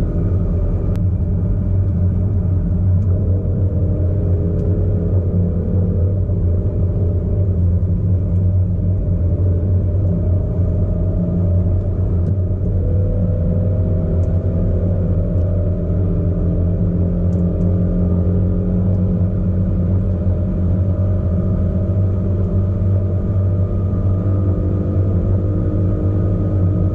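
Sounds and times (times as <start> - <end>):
car engine and exhaust drone: 0.0 - 26.9.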